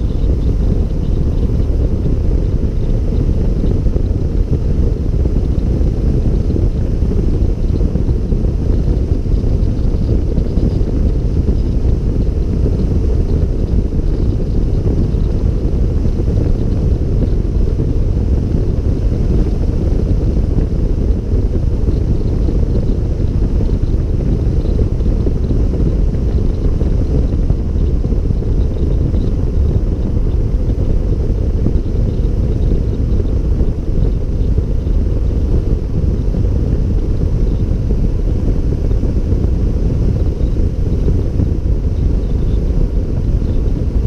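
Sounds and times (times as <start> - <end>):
motorcycle engine running: 0.0 - 44.0
wind noise on microphone: 0.0 - 44.0.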